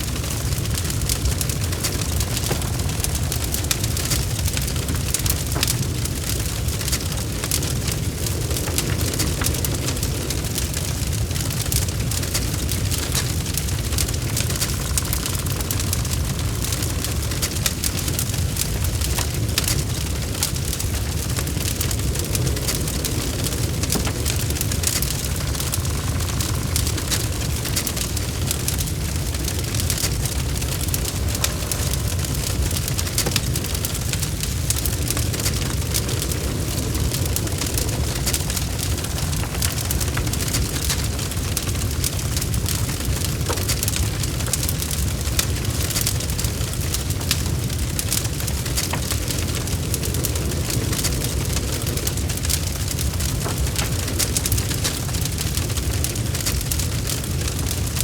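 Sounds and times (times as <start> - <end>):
log fire crackling: 0.0 - 58.0
low rumble of flame: 0.0 - 58.0.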